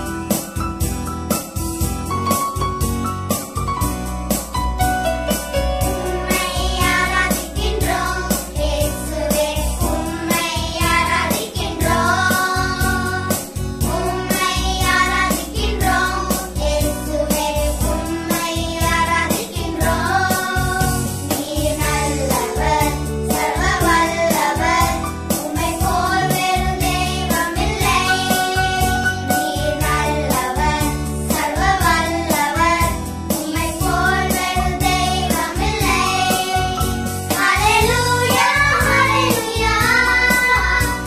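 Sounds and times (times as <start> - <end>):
instrumental backing track: 0.0 - 41.0
children singing: 6.1 - 41.0.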